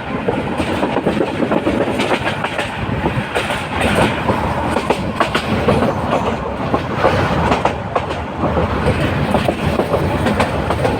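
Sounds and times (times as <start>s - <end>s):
train rumble: 0.0s - 10.9s
train wheels clattering: 0.2s - 10.9s.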